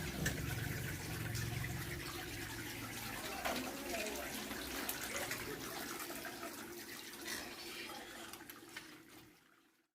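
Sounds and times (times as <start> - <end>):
water running and splashing: 0.0 - 9.9.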